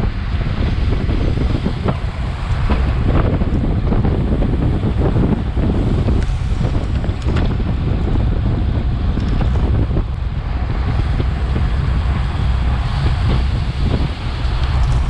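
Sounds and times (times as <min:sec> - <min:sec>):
low road rumble: 0:00.0 - 0:15.0
wind buffeting microphone: 0:00.0 - 0:15.0.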